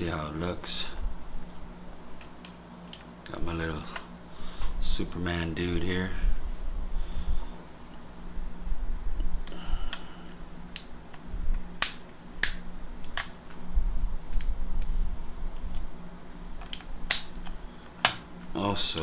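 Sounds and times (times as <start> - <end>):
faint steady low hum: 0.0 - 19.0.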